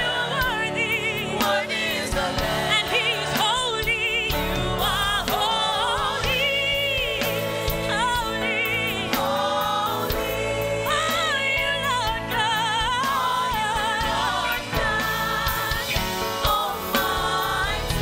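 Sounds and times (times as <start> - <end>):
backing band with steady beat: 0.0 - 18.0
group singing gospel: 0.0 - 18.0
lead singer with vibrato: 0.0 - 18.0.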